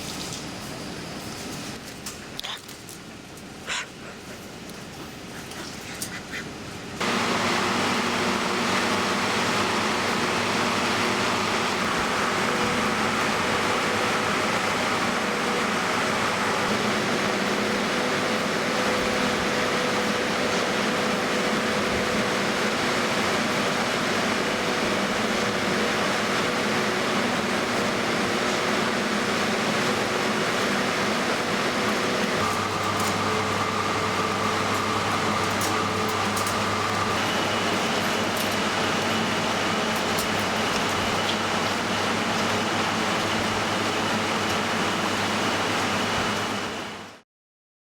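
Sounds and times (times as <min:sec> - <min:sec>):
machine hum: 0:06.5 - 0:47.2.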